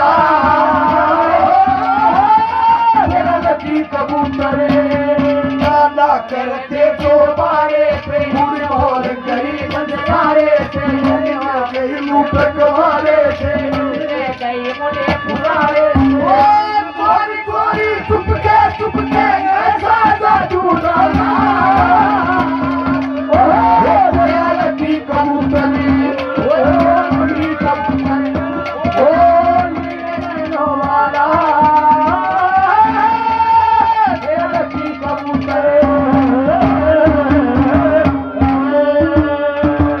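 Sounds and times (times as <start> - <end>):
hand drum rhythm: 0.0 - 40.0.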